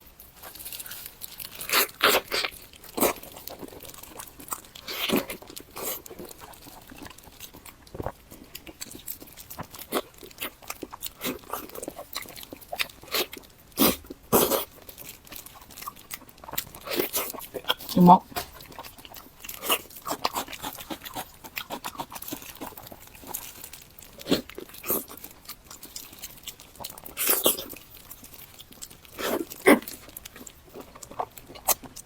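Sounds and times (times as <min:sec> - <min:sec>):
chewing crunchy food: 0:00.0 - 0:32.0.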